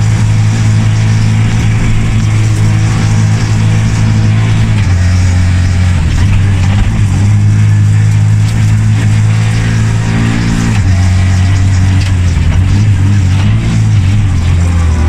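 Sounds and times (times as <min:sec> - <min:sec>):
rally car engine under load: 0:00.0 - 0:15.0.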